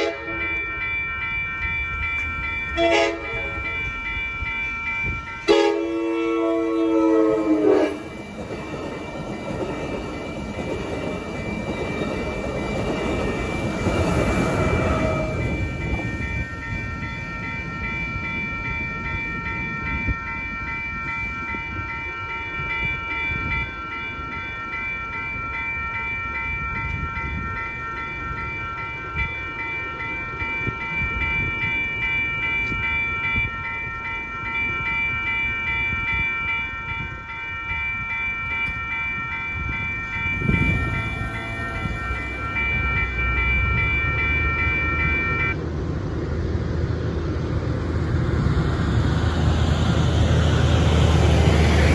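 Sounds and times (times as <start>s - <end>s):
crossing warning bell ringing: 0.0s - 46.0s, 47.4s - 51.9s
train wheels rumbling on rails: 0.0s - 51.9s.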